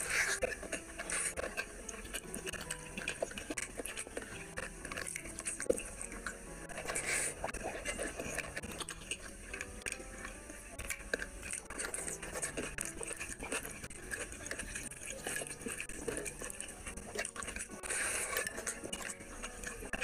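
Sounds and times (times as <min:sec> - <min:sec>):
fingers squishing rice: 0:00.0 - 0:20.0
wet chewing and mouth smacks: 0:00.0 - 0:20.0.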